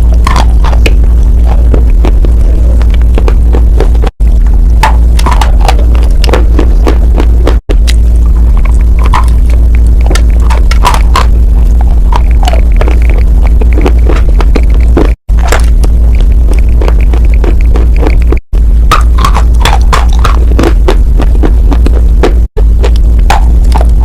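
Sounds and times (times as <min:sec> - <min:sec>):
low hum: 0:00.0 - 0:24.0
chewing crunchy chalk: 0:00.1 - 0:04.1, 0:04.8 - 0:08.0, 0:08.6 - 0:24.0.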